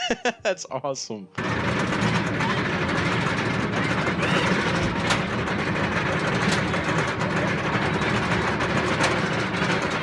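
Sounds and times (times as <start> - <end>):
roller coaster rumbling on track: 1.4 - 10.0.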